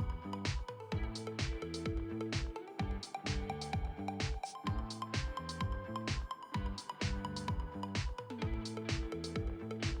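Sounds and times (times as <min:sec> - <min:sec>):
electronic music with drum beat: 0:00.0 - 0:10.0.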